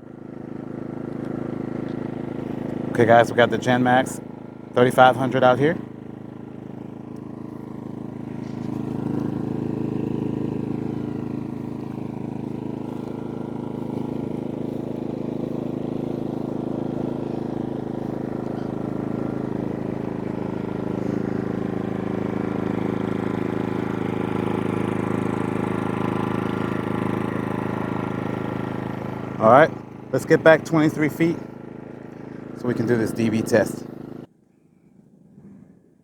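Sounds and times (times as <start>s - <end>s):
generator engine humming: 0.0s - 34.3s.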